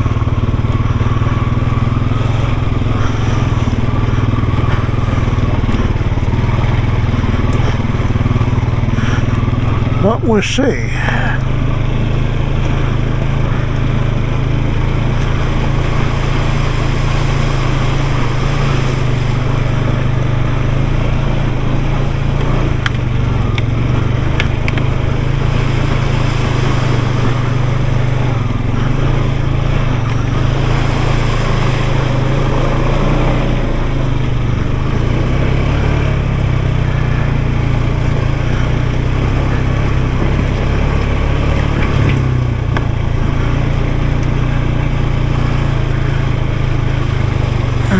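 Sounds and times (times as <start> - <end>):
vehicle engine droning: 0.0 - 47.9.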